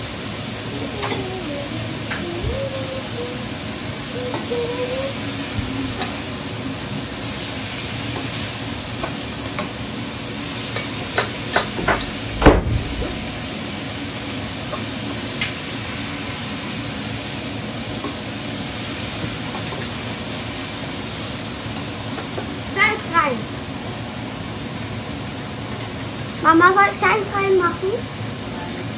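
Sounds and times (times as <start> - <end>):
food sizzling in a frying pan: 0.0 - 28.9.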